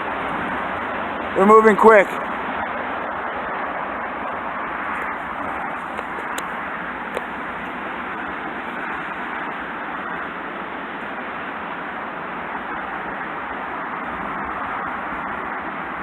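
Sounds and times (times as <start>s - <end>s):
distant road traffic hiss: 0.0s - 16.0s.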